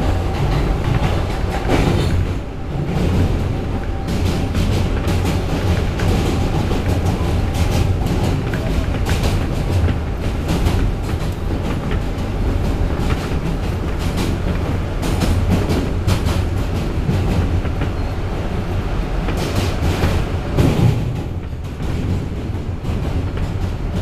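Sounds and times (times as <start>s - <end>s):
subway car rumbling: 0.0s - 24.0s
wheels clacking on rails: 0.0s - 24.0s.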